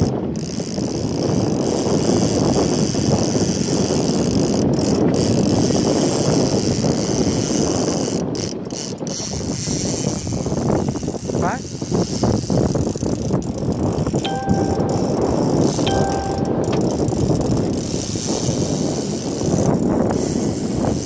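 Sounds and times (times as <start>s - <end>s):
fishing reel ratcheting: 0.0s - 14.2s, 15.6s - 21.0s.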